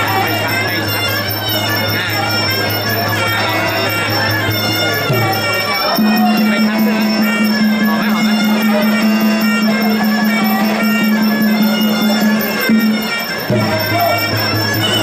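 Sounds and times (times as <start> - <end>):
reedy oboe melody: 0.0 - 15.0.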